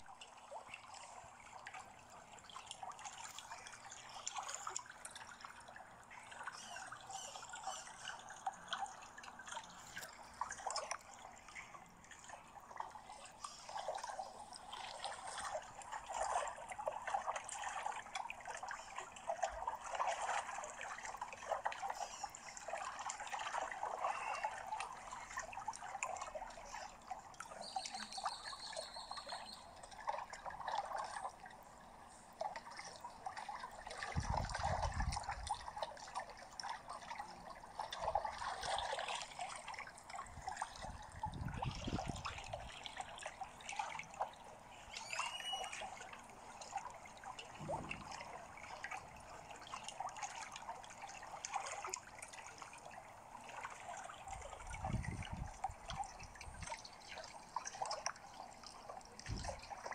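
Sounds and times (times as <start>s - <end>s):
pool water trickling and splashing: 0.0s - 59.9s.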